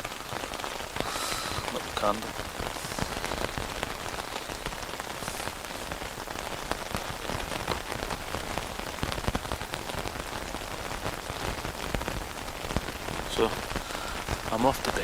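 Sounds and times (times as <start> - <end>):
rain hissing on a tent: 0.0 - 15.0
raindrops tapping on fabric: 0.0 - 15.0.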